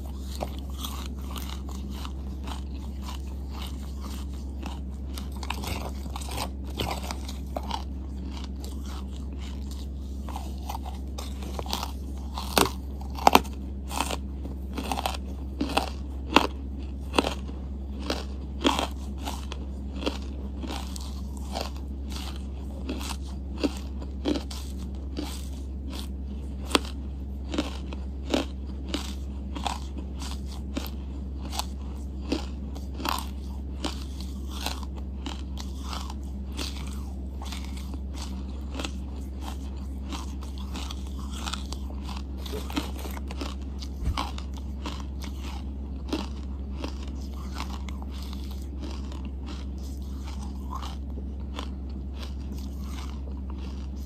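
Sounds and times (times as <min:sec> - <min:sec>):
chewing crunches and clicks: 0:00.0 - 0:54.0
steady low hum: 0:00.0 - 0:54.0.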